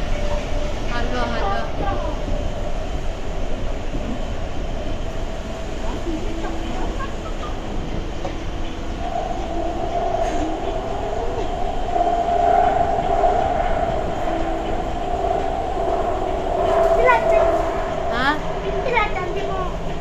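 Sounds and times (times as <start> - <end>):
train rumble with humming whine: 0.0 - 20.0.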